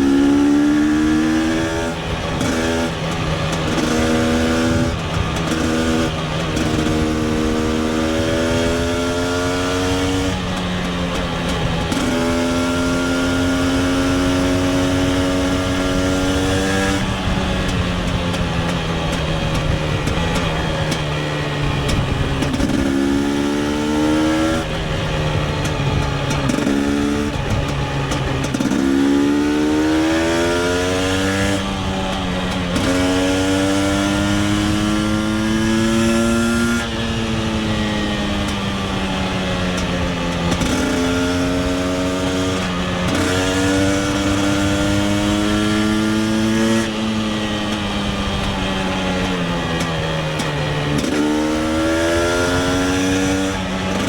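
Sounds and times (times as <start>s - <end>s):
two-stroke motorcycle engine accelerating: 0.0s - 54.0s.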